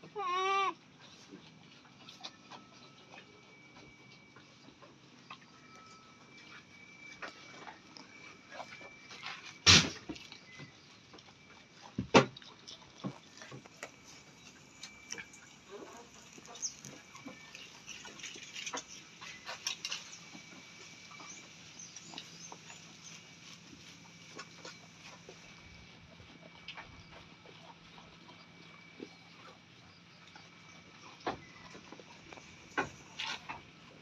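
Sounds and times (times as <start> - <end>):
goats chewing grass: 0.1 - 34.0.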